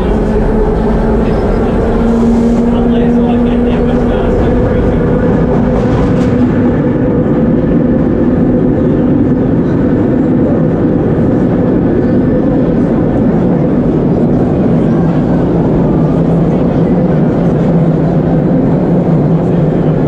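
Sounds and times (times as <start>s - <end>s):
steady low hum: 0.0s - 20.0s
subway wheels rumbling on rails: 0.0s - 20.0s.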